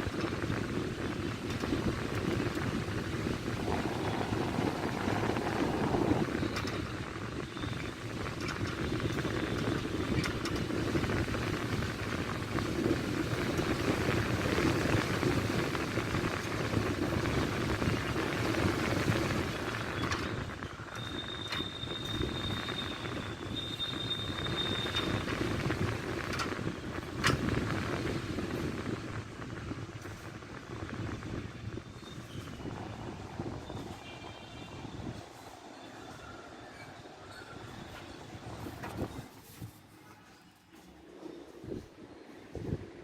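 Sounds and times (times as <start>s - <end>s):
road traffic rumble: 0.0s - 43.0s.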